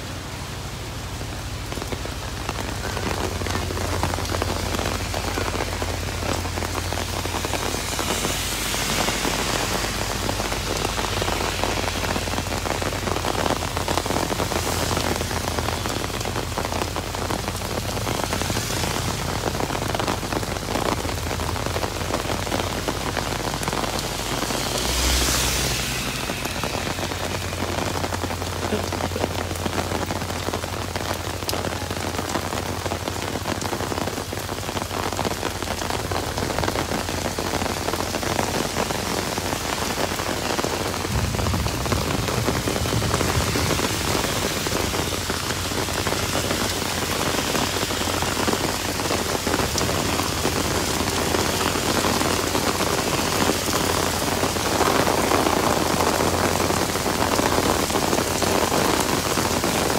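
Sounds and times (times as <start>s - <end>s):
heavy rain on a paved road: 0.0s - 59.9s.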